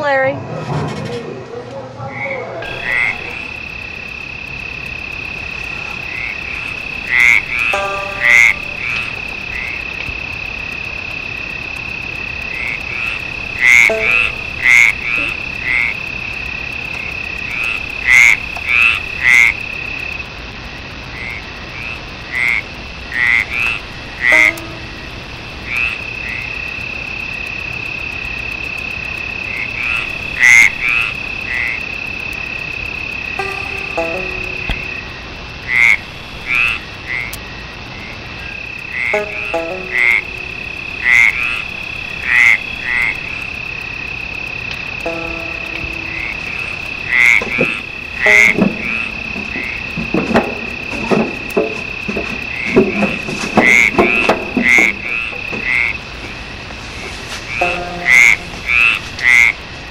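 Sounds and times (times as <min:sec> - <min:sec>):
frogs croaking: 0:01.8 - 0:59.9
high insect trill: 0:02.2 - 0:59.9.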